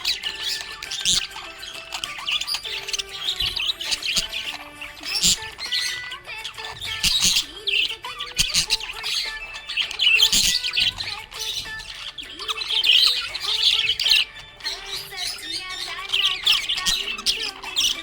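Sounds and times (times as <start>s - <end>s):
budgerigars chirping and chattering: 0.0s - 18.0s.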